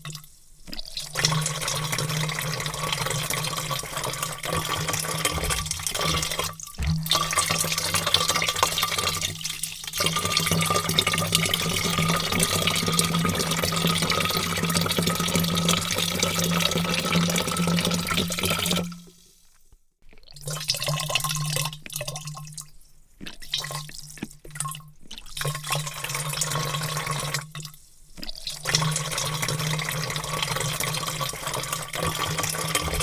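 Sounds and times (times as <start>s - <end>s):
water pouring into a vat: 0.0s - 33.0s.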